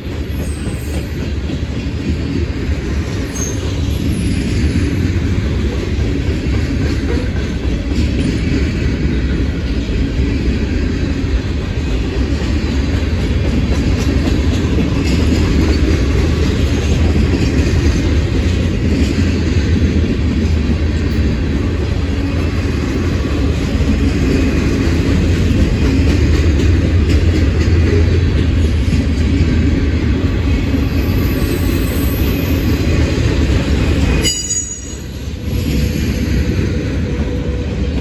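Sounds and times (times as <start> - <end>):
freight train wheels on rails: 0.0 - 38.0.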